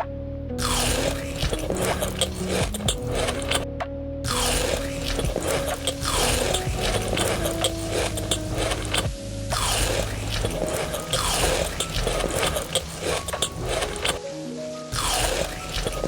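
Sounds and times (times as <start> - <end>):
crunching and biting food: 0.6 - 3.6, 4.3 - 14.2, 14.9 - 16.0
crackly clicks: 0.6 - 3.7, 4.3 - 14.3, 14.9 - 16.0.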